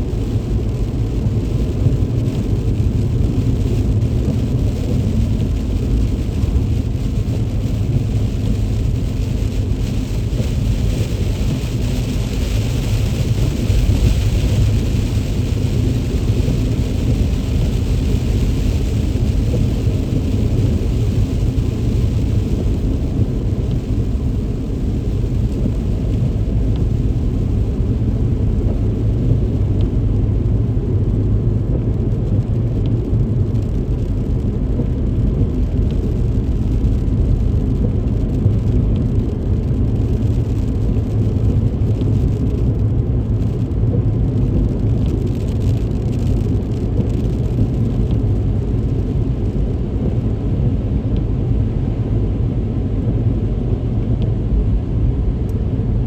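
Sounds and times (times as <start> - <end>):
car driving in heavy rain: 0.0 - 56.0.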